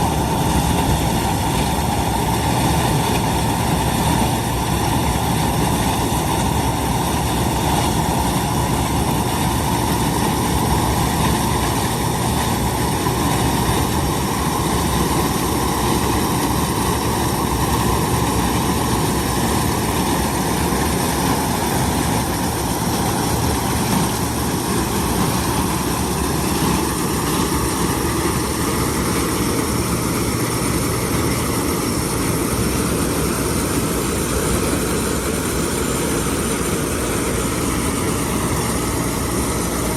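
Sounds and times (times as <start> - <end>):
faint steady whines: 0.0 - 39.9
harvesting machinery drone: 0.0 - 39.9.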